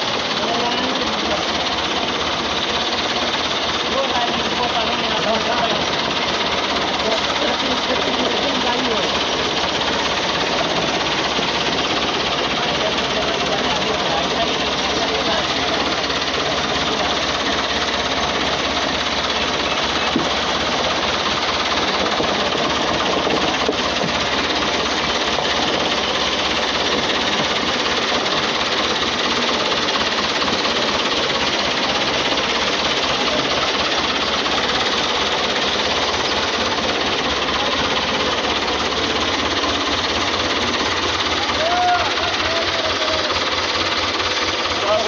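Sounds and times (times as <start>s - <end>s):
thresher mechanical clatter: 0.0s - 45.0s
tractor diesel engine running: 0.0s - 45.0s.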